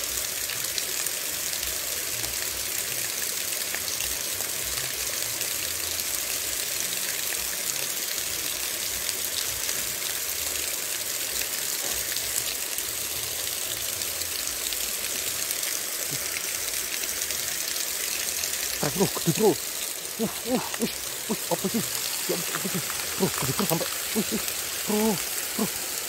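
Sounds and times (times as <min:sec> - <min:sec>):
water spilling over weir: 0:00.0 - 0:26.0.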